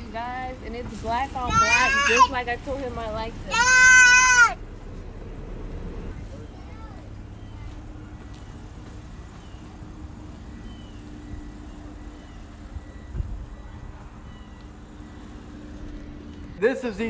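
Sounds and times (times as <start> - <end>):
low mechanical rumble: 0.0 - 17.0
thin constant hum: 0.0 - 17.0.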